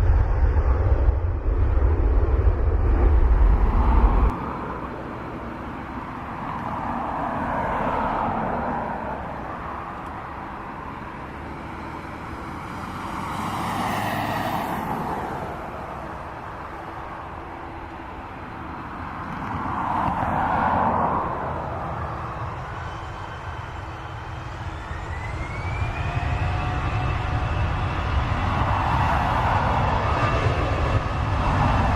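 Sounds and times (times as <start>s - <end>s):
passing vehicles: 0.0s - 31.9s.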